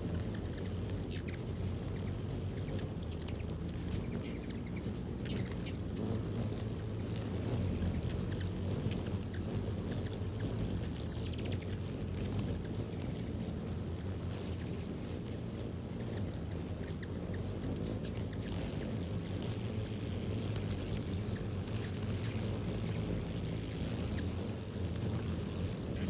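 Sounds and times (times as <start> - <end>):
hummingbird chip notes: 0.0 - 26.0
low background hum: 0.0 - 26.0.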